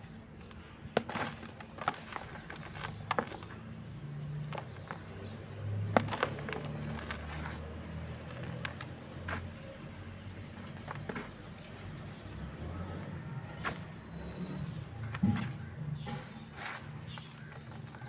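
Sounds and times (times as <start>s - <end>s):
dry dirt crunching in hands: 0.0s - 18.0s
loose dirt falling: 0.0s - 18.0s.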